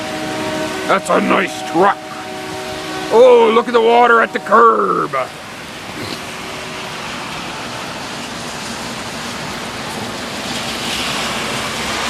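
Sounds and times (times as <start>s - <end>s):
heavy rain on pavement and cars: 0.0s - 12.0s.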